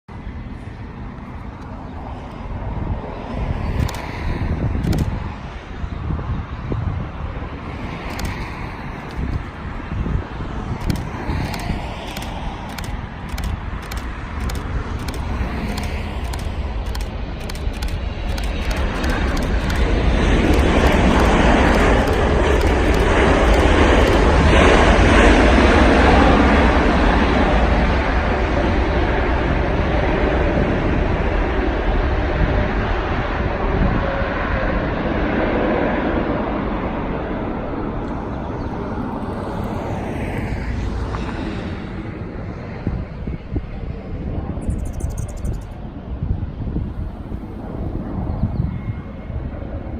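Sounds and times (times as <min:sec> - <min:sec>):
jet engines rumbling: 0:00.1 - 0:49.9.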